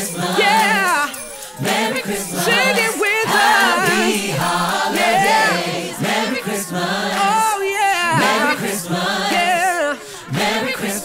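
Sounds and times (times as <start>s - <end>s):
backing choir: 0.0s - 11.0s
person singing with vibrato: 0.0s - 11.0s.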